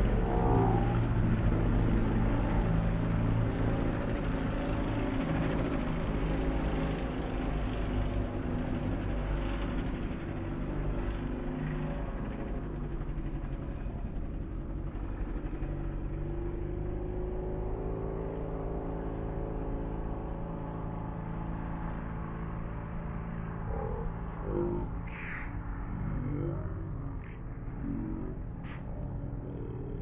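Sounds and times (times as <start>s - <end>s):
racing boat engines droning: 0.0s - 30.0s.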